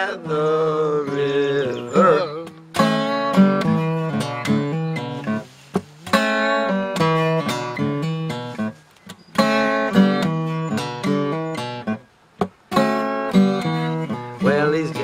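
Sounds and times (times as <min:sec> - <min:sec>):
acoustic guitar strumming blues: 0:00.0 - 0:15.0.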